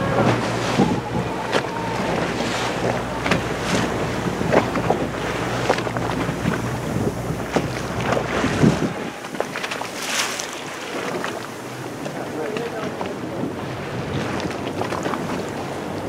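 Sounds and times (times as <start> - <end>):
boat motor running: 0.0 - 16.0
water rushing and splashing: 0.0 - 16.0
wind buffeting microphone: 0.0 - 16.0.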